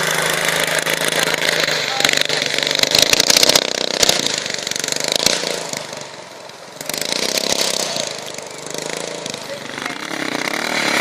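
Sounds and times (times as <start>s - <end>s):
buggy engine running: 0.0s - 11.0s.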